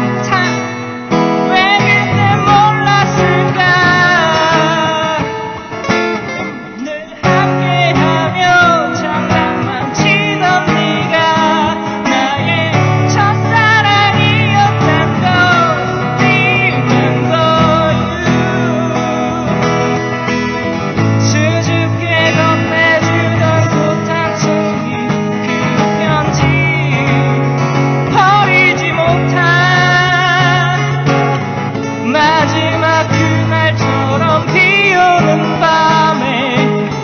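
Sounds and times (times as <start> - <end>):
person singing: 0.0 - 37.0
strummed acoustic guitar: 0.0 - 37.0.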